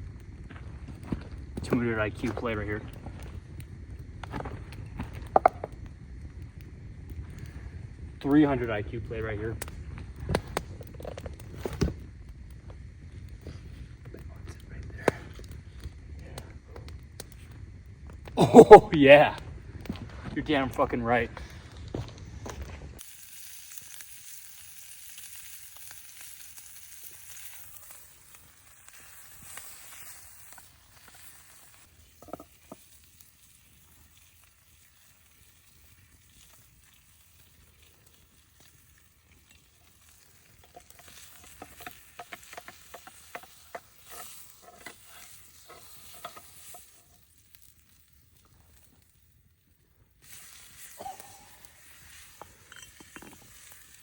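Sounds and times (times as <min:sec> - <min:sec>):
meat sizzling: 0:00.0 - 0:21.3, 0:21.9 - 0:54.0
fire pops and crackles: 0:00.0 - 0:54.0.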